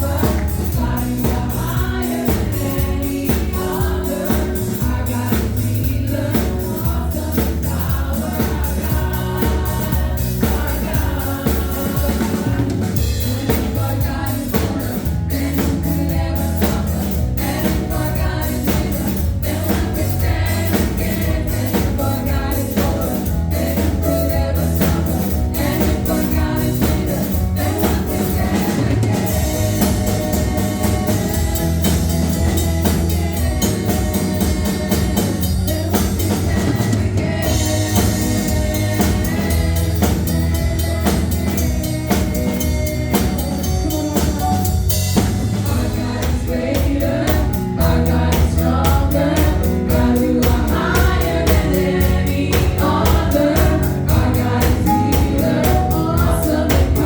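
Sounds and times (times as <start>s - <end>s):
band with drum kit: 0.0s - 57.0s
choir singing gospel: 0.0s - 57.0s.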